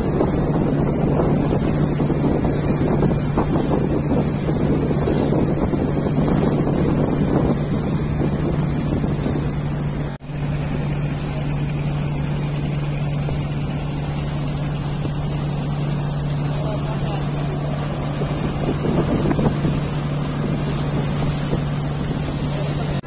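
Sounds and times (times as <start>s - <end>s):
boat engine drone: 0.0s - 23.0s
wind buffeting microphone: 0.0s - 23.0s.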